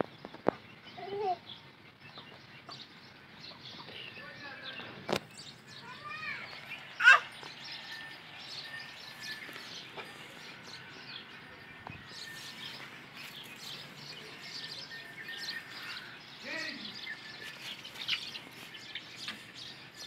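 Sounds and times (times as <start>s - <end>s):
chicks and chickens chirping: 0.0s - 20.0s.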